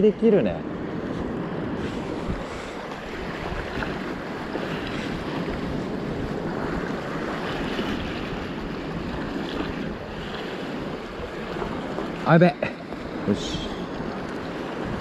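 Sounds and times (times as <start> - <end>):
wind buffeting microphone: 0.0 - 15.0
seawater sloshing against concrete: 1.0 - 15.0.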